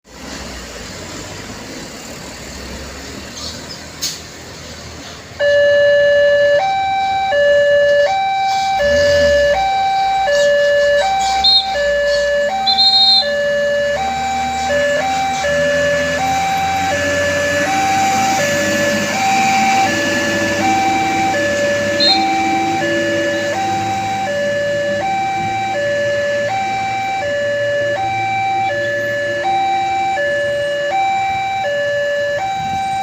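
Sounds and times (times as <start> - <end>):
street background noise: 0.0 - 33.0
two-tone crossing alarm: 5.4 - 33.0.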